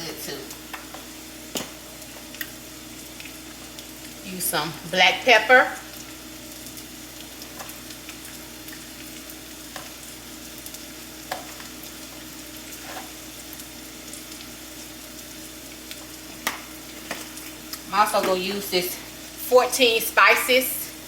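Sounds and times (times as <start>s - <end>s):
peppers sizzling in a skillet: 0.0s - 21.0s.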